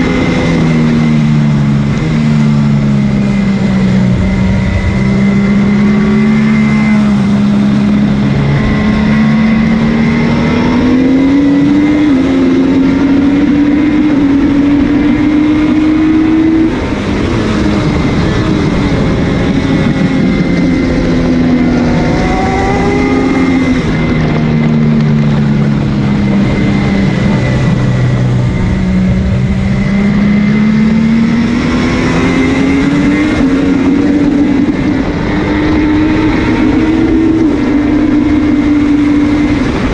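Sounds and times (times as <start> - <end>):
motorcycle engine at racing speed: 0.0 - 39.9
wind rush: 0.0 - 39.9.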